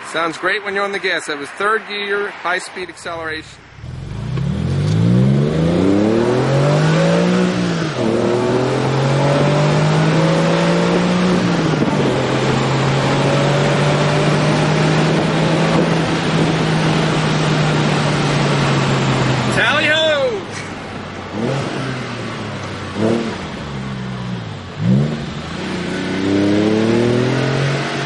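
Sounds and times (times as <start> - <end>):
car engine accelerating hard: 3.0 - 28.0.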